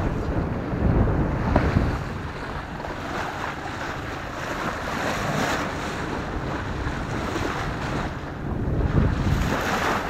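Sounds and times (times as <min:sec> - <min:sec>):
sea water splashing along bow: 0:00.0 - 0:10.0
wind buffeting microphone: 0:00.0 - 0:10.0.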